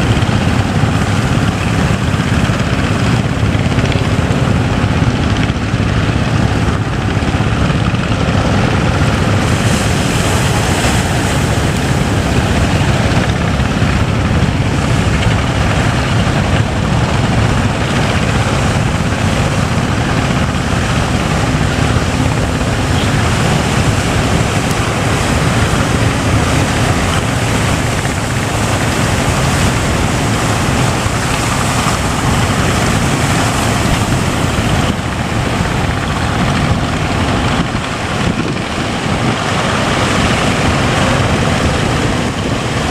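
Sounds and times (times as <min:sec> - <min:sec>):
boat engine running: 0:00.0 - 0:42.9
sea rushing: 0:00.0 - 0:42.9
wind rushing: 0:00.0 - 0:42.9.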